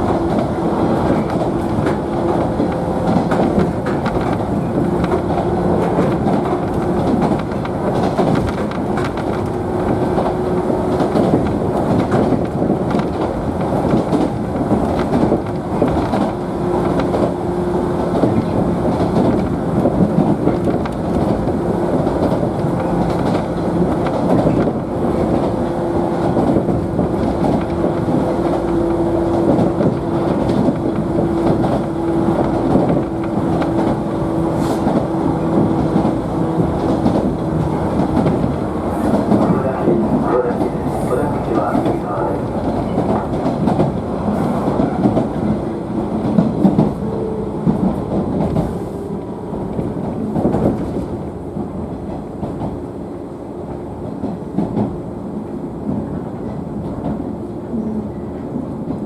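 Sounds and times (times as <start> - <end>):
train motor hum: 0.0 - 59.0
train wheels rumbling on rail: 0.0 - 59.0.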